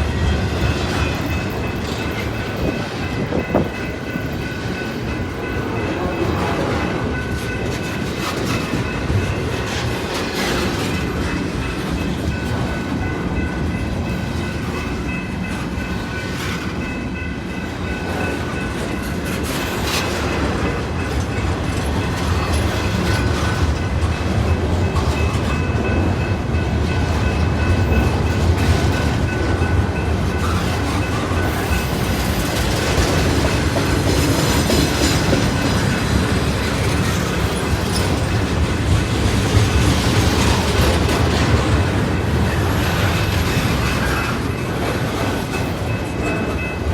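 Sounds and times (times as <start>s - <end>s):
train cars rumbling past: 0.0s - 46.9s
wheels clickety-clack: 0.0s - 46.9s.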